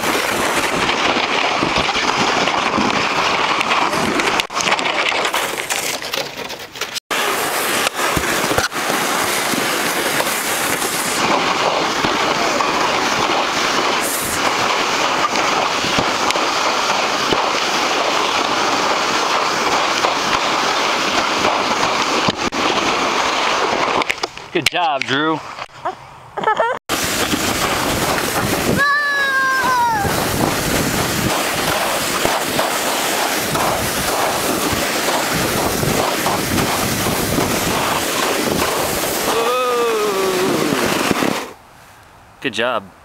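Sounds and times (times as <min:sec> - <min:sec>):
sled sliding over snow: 0:00.0 - 0:25.9, 0:26.9 - 0:41.6.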